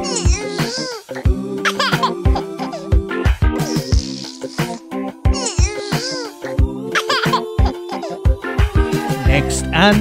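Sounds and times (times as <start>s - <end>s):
upbeat children's song music: 0.0s - 10.0s.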